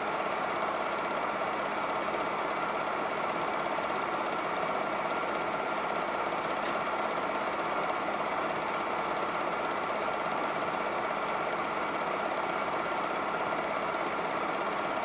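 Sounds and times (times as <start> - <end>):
film projector clattering: 0.0 - 15.0.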